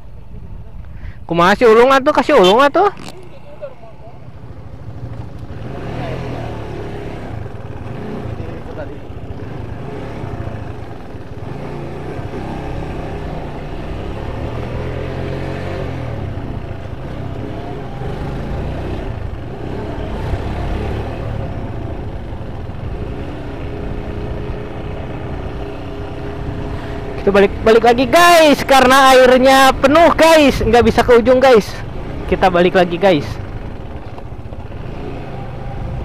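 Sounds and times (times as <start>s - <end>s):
motorcycle engine running: 4.2s - 36.0s.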